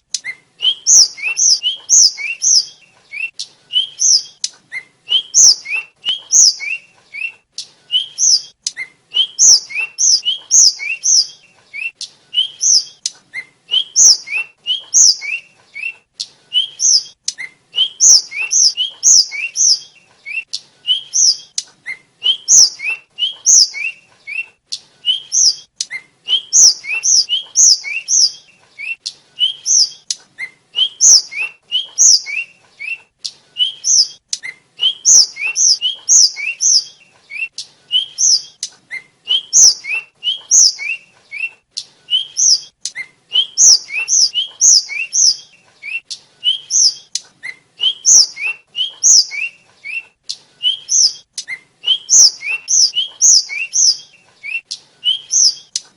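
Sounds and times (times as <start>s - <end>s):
flycatcher singing high whistled phrases: 0.2s - 7.4s, 8.0s - 15.9s, 16.6s - 24.4s, 26.3s - 33.0s, 33.6s - 41.5s, 42.1s - 55.7s.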